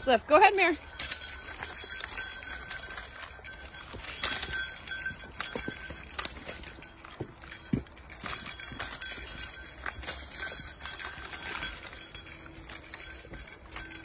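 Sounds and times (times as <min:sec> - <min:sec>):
dogs' clattering steps on trail: 0:00.0 - 0:14.0
light metallic jingle: 0:00.0 - 0:14.0.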